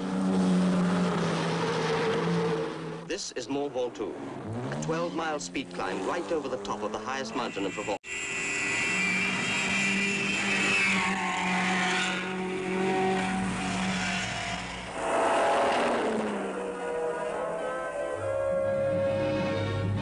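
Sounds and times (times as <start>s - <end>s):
rally car engines at high revs: 0.0s - 18.8s.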